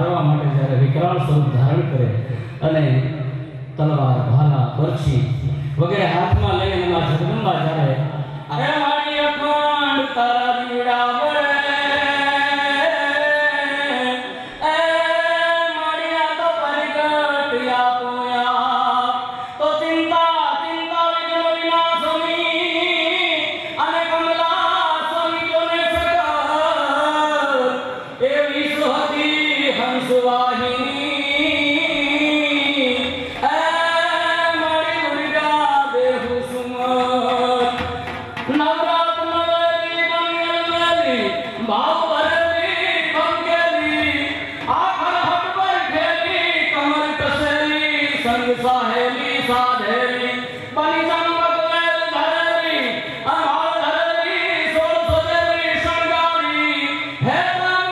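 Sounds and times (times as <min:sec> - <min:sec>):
man singing into a microphone: 0:00.0 - 0:57.9
person chanting: 0:02.6 - 0:57.9.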